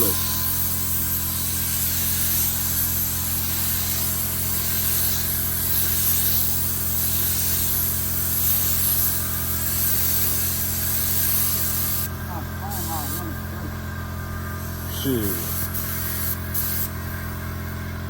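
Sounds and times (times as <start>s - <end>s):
paint spray gun hissing: 0.0s - 13.8s, 14.6s - 17.1s
steady motor hum: 0.0s - 18.0s.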